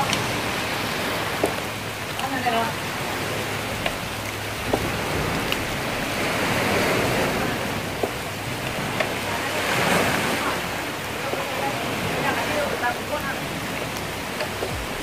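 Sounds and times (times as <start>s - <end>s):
gentle surf: 0.0s - 15.0s
rain: 0.0s - 15.0s
water drips ticking: 0.0s - 15.0s.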